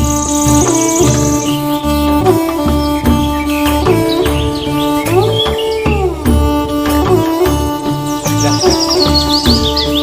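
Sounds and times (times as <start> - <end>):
bird chirps: 0.0 - 10.0
pulsing bass beat: 0.0 - 10.0
sliding melody line: 0.0 - 10.0.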